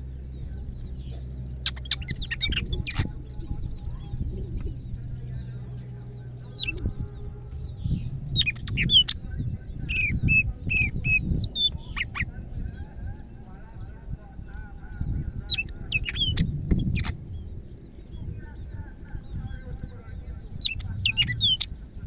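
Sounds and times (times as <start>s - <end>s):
bird singing whistled notes: 0.0s - 13.2s, 15.4s - 18.7s, 19.3s - 22.0s
low rumble: 0.0s - 22.0s.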